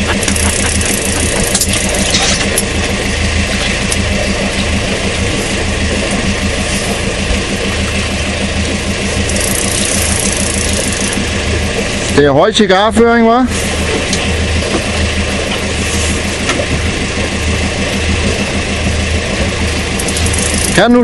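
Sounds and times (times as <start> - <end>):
boat engine idling: 0.0 - 21.0
sea noise: 0.0 - 21.0
wind: 0.0 - 21.0.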